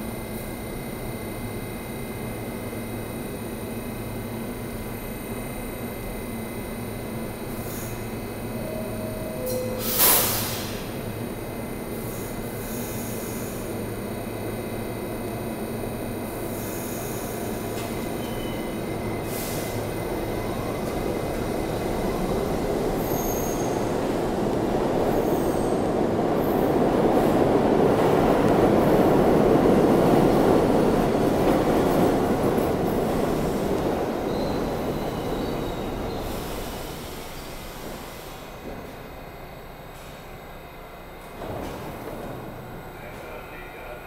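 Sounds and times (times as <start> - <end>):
subway train wheels rumbling: 0.0 - 44.0.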